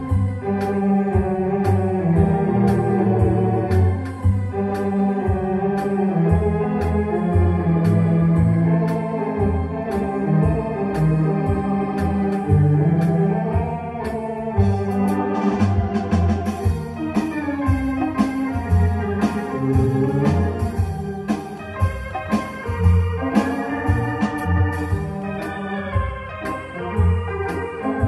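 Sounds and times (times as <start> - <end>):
electronic organ playing: 0.0 - 28.0
light percussion beat: 0.0 - 28.0.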